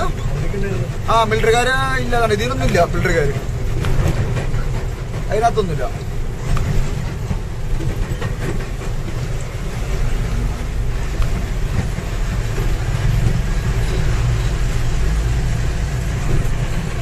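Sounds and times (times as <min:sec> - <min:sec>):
vehicle engine and tyres rumbling: 0:00.0 - 0:17.0.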